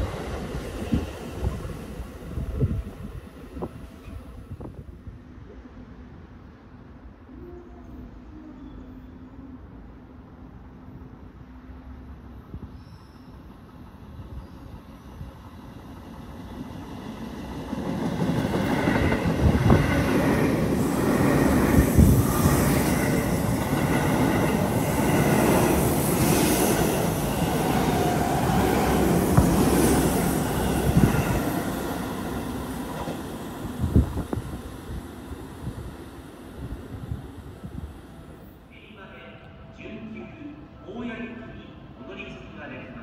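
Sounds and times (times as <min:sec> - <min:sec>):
electric train running past: 0:00.0 - 0:43.0.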